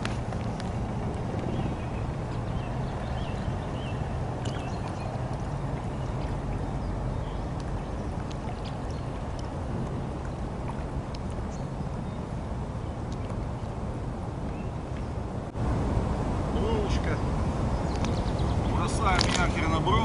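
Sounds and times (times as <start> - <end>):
outboard motor humming: 0.0 - 20.0
water noise: 0.0 - 20.0.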